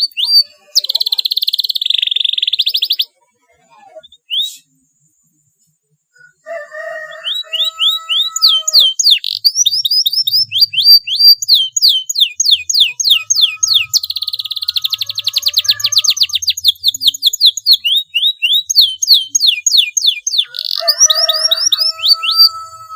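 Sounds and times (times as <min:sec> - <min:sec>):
canary singing: 0:00.0 - 0:05.3, 0:06.2 - 0:22.9.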